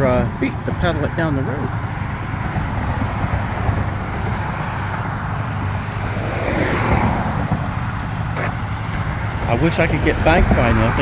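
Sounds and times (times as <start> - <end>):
road traffic rumble: 0.0 - 11.0
vehicle passing by: 2.0 - 11.0.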